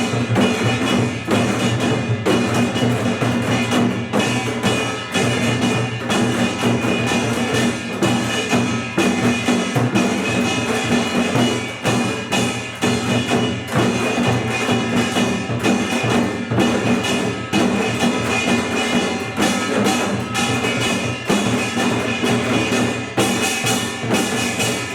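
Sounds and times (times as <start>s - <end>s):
drums in driving rhythm: 0.0s - 24.9s.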